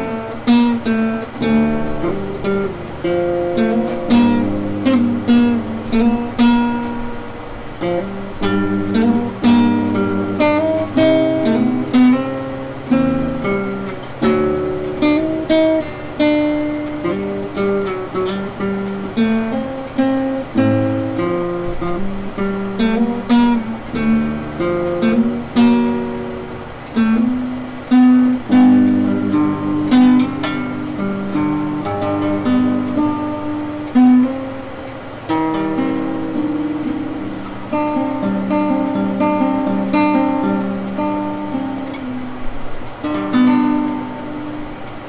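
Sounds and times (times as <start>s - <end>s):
acoustic guitar: 0.0s - 45.0s.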